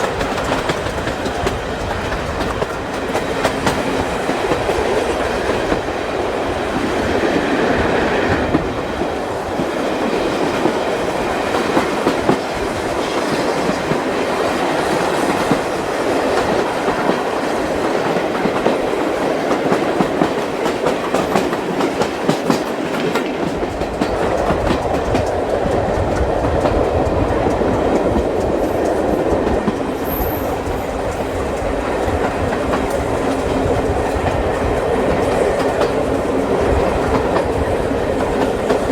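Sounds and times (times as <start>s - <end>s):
wheels clicking over rail joints: 0.0s - 6.1s, 7.1s - 38.9s
train rumbling on track: 0.0s - 38.9s.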